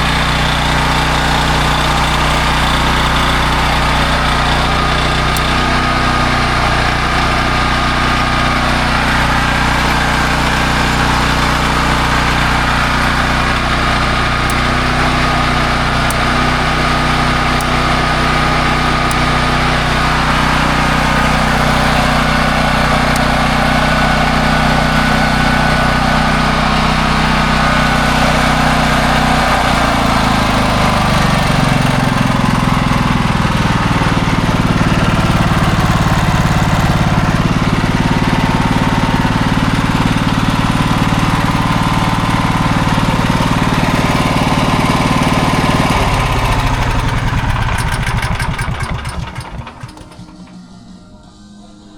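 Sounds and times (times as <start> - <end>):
generator engine running: 0.0 - 51.9.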